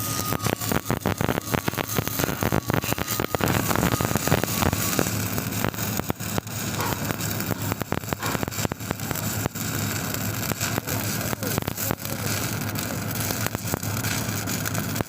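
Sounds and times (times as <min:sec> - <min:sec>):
welding arc crackling and popping: 0:00.0 - 0:15.0.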